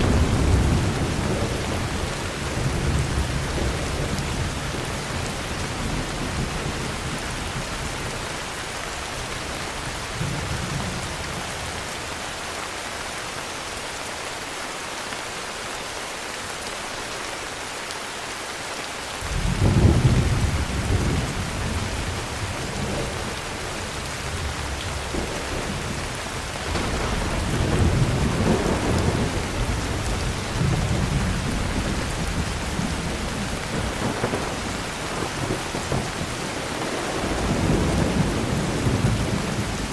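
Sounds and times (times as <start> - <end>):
thunder rumbling: 0.0 - 12.2, 19.2 - 39.9
heavy rain falling: 0.0 - 39.9.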